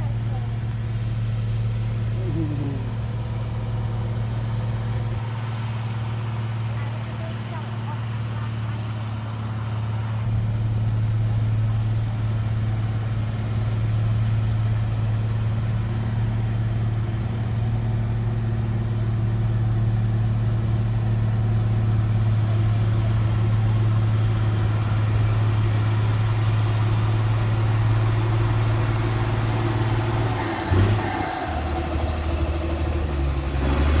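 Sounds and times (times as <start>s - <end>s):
heavy machine engine running: 0.0s - 34.0s.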